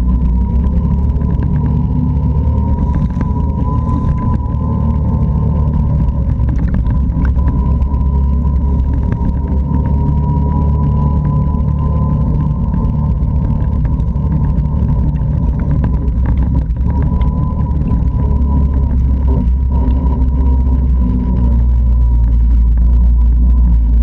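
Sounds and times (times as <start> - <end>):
atv engine drone: 0.0 - 24.0
gravel ticking under tyres: 0.0 - 24.0
high engine whine: 0.0 - 24.0.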